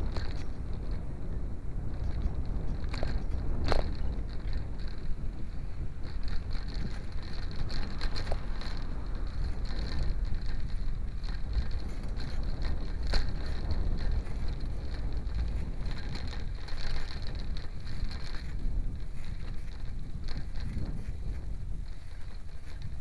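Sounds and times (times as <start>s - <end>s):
low rumble of moving ride: 0.0s - 23.0s
wind buffeting microphone: 0.0s - 23.0s.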